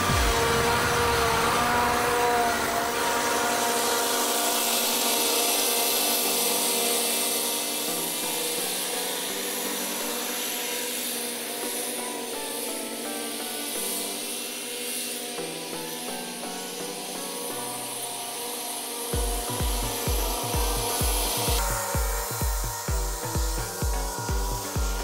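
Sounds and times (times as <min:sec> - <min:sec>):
riding mower engine running: 0:00.0 - 0:25.0.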